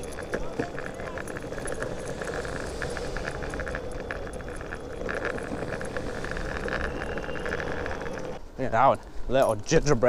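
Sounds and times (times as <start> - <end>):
rapid fine ticking: 0.0 - 8.4
wheels rolling over pavement: 0.0 - 10.0.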